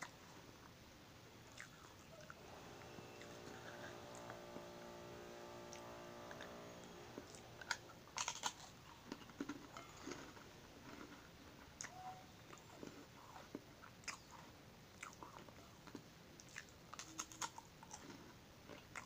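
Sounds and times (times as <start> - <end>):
crunchy chewing: 1.5 - 19.0.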